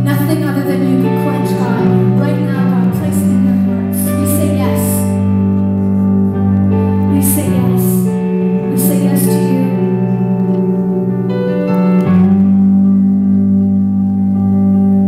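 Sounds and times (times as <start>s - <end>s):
keyboard: 0.0s - 15.0s
live band through a pa: 0.0s - 15.0s.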